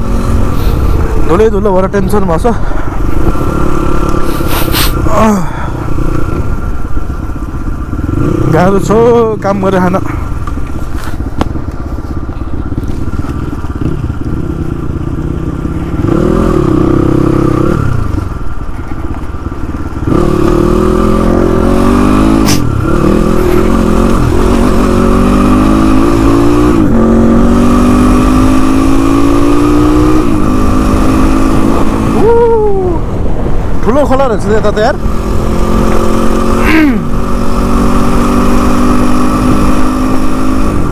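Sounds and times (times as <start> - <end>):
motorcycle engine shifting gears: 0.0 - 32.3, 34.8 - 40.9.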